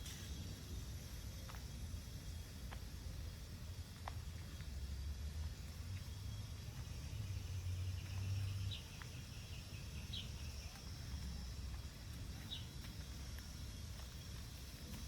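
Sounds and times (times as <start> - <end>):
faint high hiss: 0.0 - 15.0.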